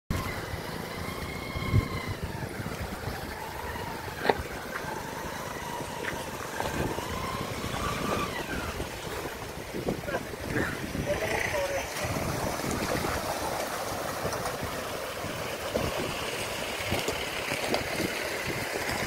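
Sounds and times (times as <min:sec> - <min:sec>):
motorcycle engines running: 0:00.1 - 0:19.0.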